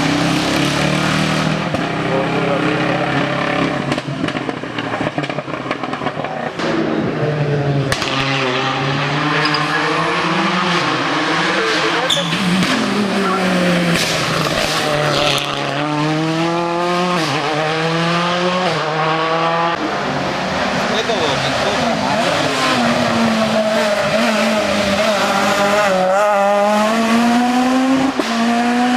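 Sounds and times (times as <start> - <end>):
race car engine shifting gears: 0.0 - 28.9.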